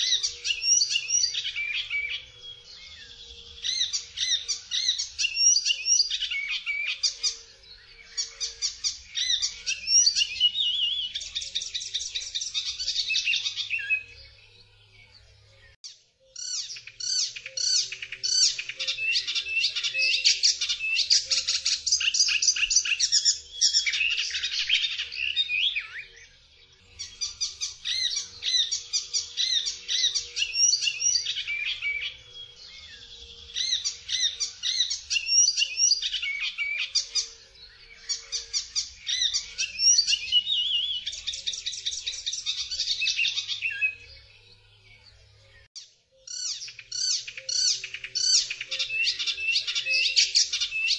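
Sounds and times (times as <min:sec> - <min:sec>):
warbler singing: 0:00.0 - 0:50.9.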